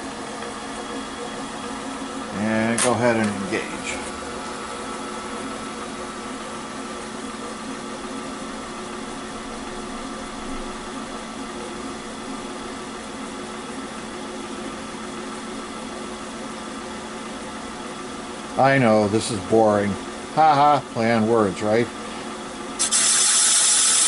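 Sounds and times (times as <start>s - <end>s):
boring machine motor hum: 0.0s - 24.0s.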